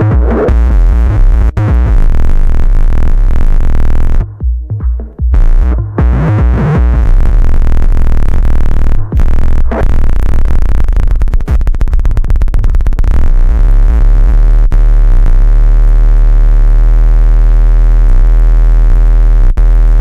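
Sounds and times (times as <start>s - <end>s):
distorted electronic feedback buzz: 0.0s - 4.3s, 5.4s - 20.0s.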